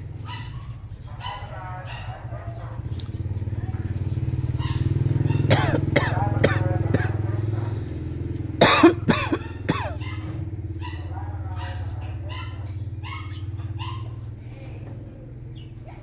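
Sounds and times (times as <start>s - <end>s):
engine idling hum: 0.0s - 16.0s.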